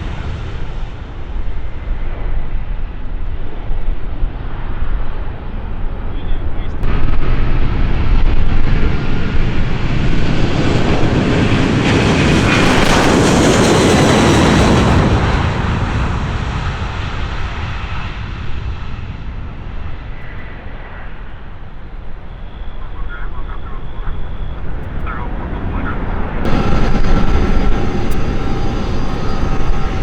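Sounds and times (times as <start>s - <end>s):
jet engines roaring and whining: 0.0s - 30.0s.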